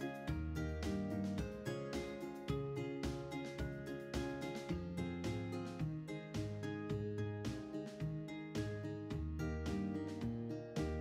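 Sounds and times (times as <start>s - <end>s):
instrumental music with chords: 0.0s - 11.0s.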